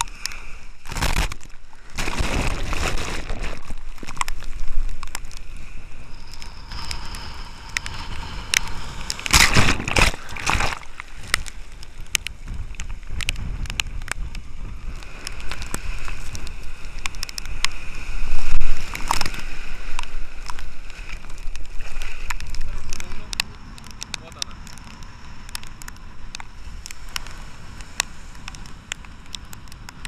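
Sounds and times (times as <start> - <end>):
breaking waves: 0.0 - 30.0
surf sloshing and splashing: 0.0 - 30.0.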